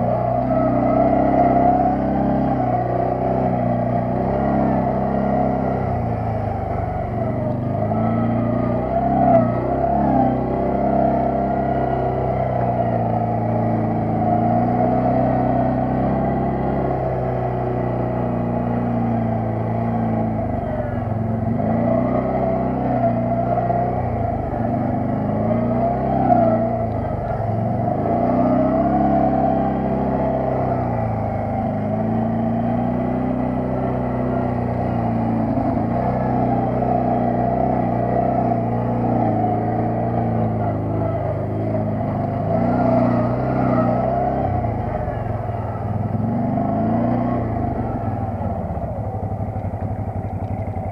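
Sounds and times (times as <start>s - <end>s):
quad bike engine revving: 0.0s - 50.9s.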